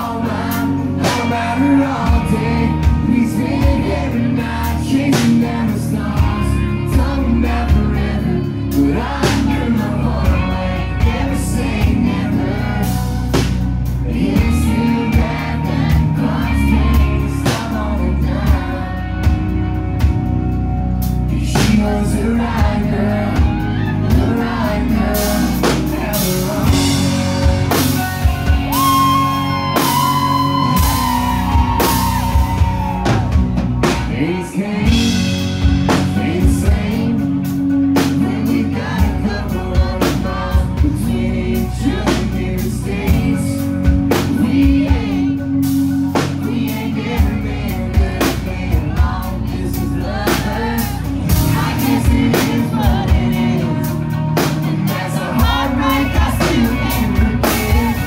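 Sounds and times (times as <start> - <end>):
man singing: 0.0 - 20.2, 21.0 - 58.0
drum kit beat: 0.0 - 58.0
electric guitar: 0.0 - 58.0.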